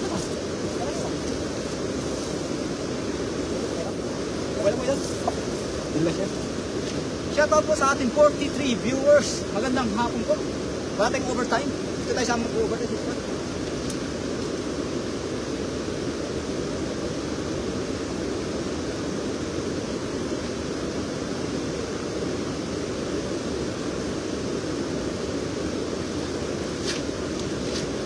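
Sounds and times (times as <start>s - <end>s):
river rushing over weir: 0.0s - 28.0s.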